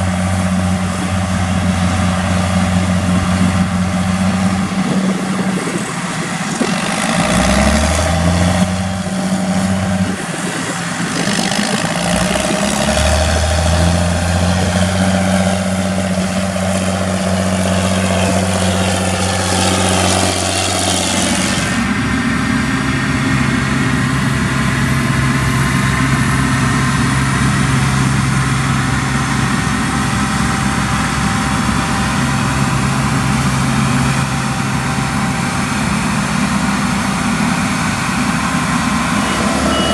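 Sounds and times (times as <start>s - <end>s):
heavy machinery engine under load: 0.0s - 39.9s.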